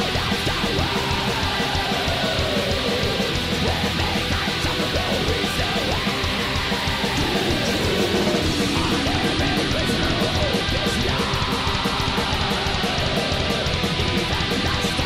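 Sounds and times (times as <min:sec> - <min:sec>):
drums: 0:00.0 - 0:15.0
electric guitar: 0:00.0 - 0:15.0.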